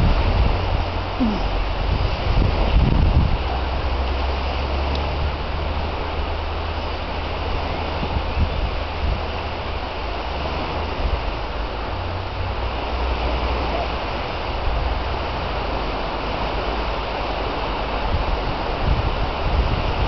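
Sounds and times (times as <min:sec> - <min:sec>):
small waves washing ashore: 0:00.0 - 0:20.0
wind buffeting microphone: 0:00.0 - 0:20.0.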